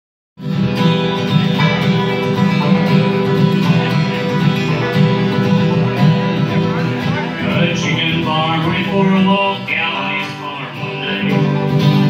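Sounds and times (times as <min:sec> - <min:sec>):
acoustic guitars strumming: 0:00.4 - 0:12.0
mandolin picking: 0:00.4 - 0:12.0.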